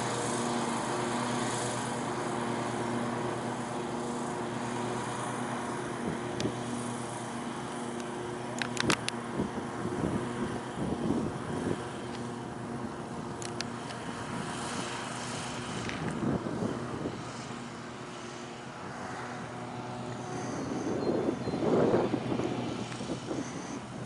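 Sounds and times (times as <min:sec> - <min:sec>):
model airplane motor drone: 0:00.0 - 0:24.0.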